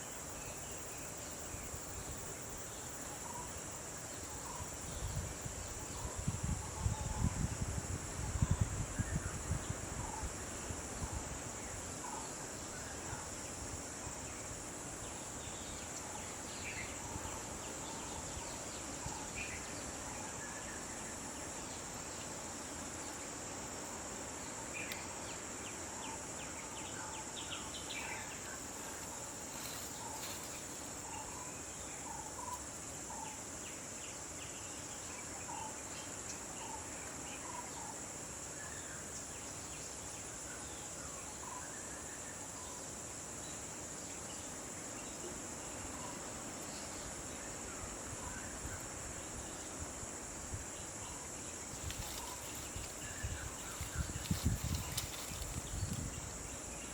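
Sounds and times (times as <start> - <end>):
insects chorus: 0.0 - 56.9.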